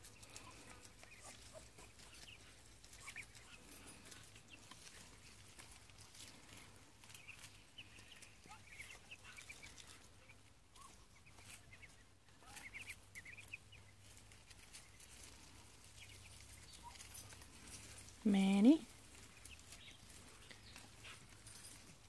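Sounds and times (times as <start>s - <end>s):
ducklings and chicks peeping: 0.0s - 22.0s.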